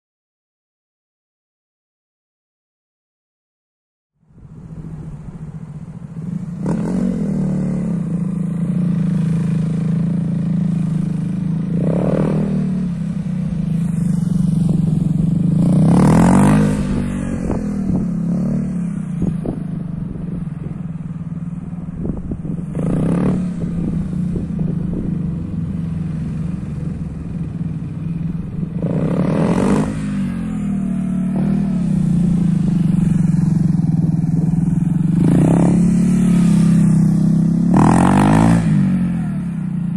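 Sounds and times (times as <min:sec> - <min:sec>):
motorcycle engine revving: 0:04.8 - 0:39.9.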